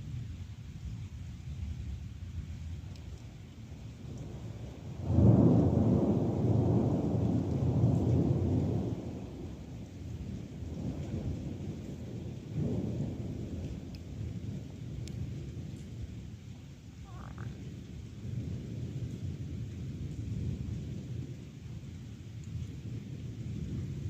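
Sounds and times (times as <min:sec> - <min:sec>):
steady rain: 0:00.0 - 0:24.0
thunder rumbling: 0:01.6 - 0:24.0.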